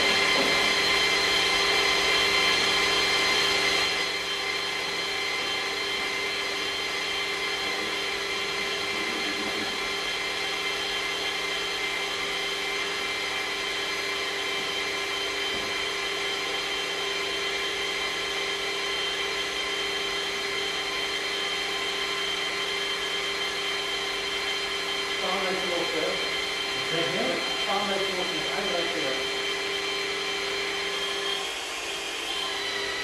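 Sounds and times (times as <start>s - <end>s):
magnetic drill whining through steel: 0.0s - 33.0s.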